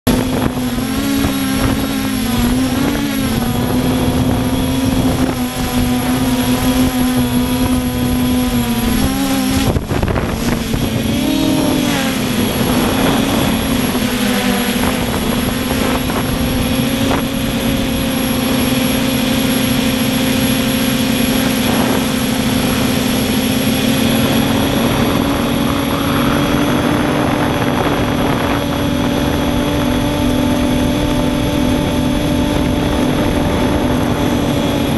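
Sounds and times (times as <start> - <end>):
quadcopter motors whining: 0.1 - 34.9.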